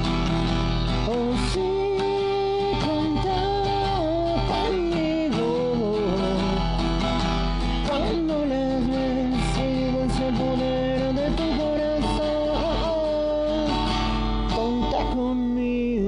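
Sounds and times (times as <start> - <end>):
song with guitars and singing: 0.0 - 16.0.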